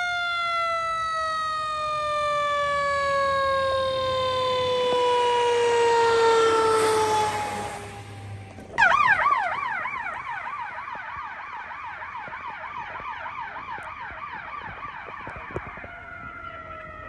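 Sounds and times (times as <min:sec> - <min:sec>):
electronic siren yelping and wailing: 0:00.0 - 0:17.0.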